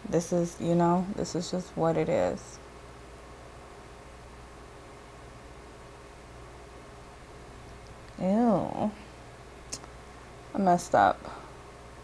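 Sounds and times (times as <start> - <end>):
background hiss: 0.0 - 12.0
faint low hum: 0.0 - 12.0.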